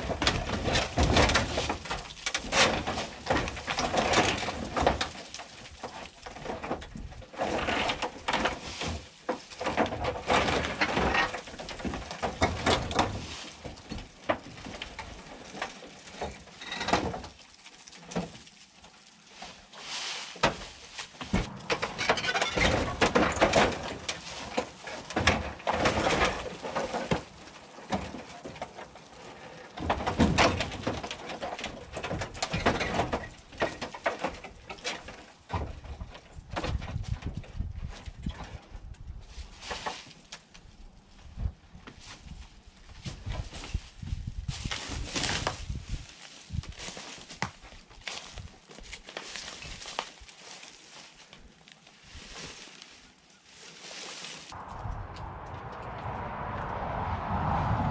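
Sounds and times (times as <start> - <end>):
tin roofing creaking and scraping: 0.0 - 54.7.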